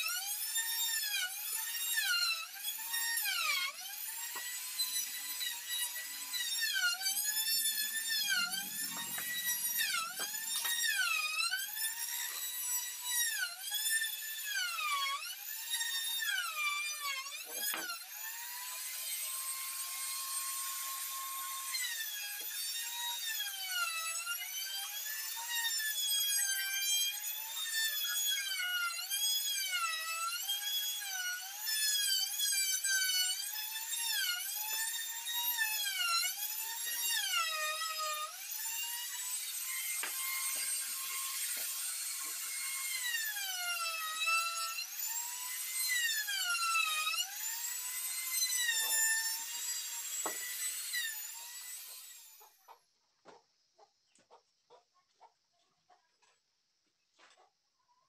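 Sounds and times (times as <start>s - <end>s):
power tool whine cutting wood: 0.0s - 52.8s.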